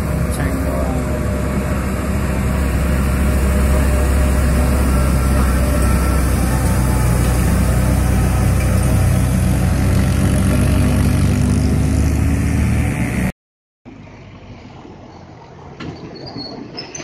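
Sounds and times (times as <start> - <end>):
heavy diesel truck engine: 0.0 - 13.3, 13.9 - 17.0
road traffic: 0.0 - 17.0.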